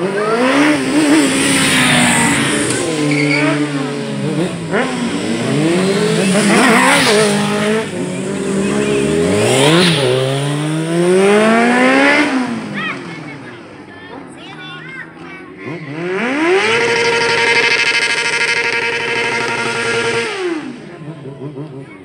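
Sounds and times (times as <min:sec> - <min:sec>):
motorcycle passing close by: 0:00.0 - 0:13.5, 0:15.5 - 0:22.0
motorcycle engines revving: 0:00.0 - 0:22.0.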